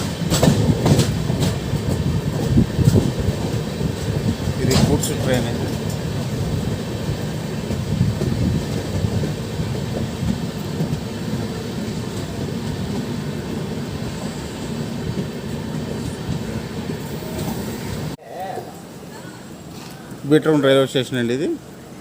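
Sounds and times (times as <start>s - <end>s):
train wheels rumbling on track: 0.0s - 18.2s.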